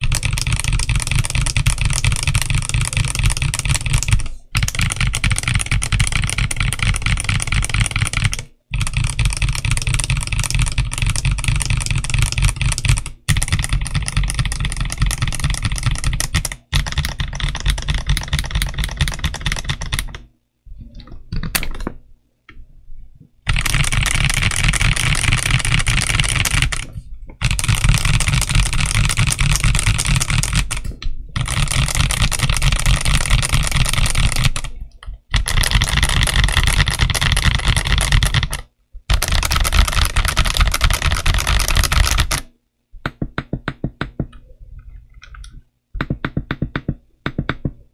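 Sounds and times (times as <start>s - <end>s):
mechanical keyboard typing: 0.0s - 20.3s, 23.5s - 42.5s, 45.2s - 47.8s.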